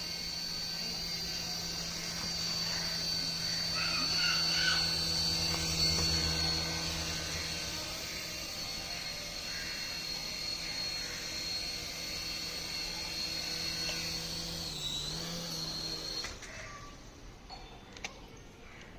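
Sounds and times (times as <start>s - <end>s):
toy electric motor whirring: 0.0s - 17.3s.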